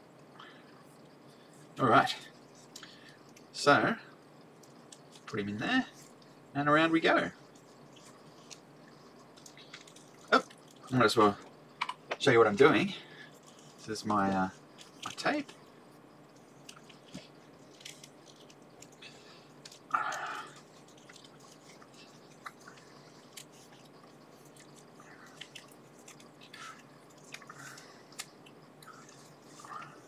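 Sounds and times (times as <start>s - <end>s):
tape crackling and clicking: 2.4s - 3.5s, 4.5s - 6.4s, 7.4s - 12.4s, 13.2s - 30.0s.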